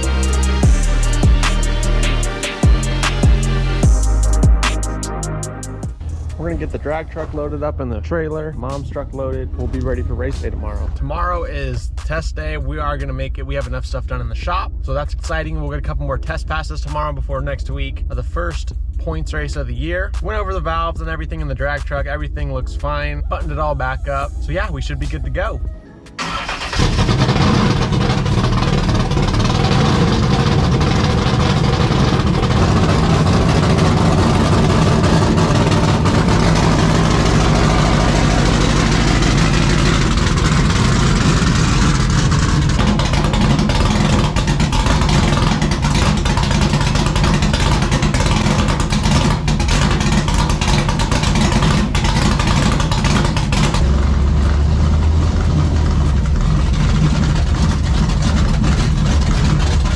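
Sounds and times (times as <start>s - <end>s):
vehicle engine running: 0.0s - 12.2s, 17.7s - 59.9s.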